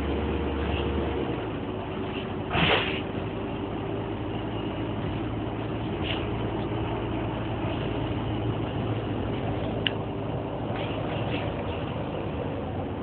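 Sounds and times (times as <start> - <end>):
bus diesel engine humming: 0.0 - 13.0.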